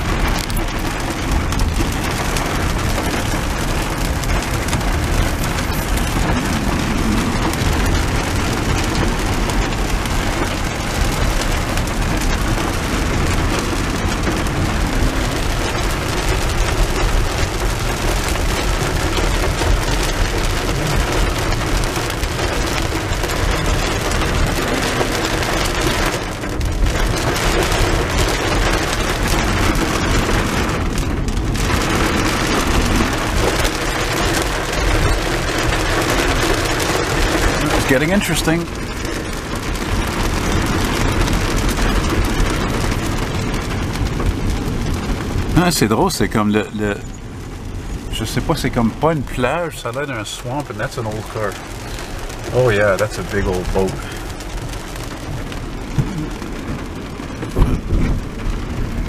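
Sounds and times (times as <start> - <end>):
heavy rain on car roof: 0.0 - 59.0
tyres hissing on wet road: 0.0 - 59.0.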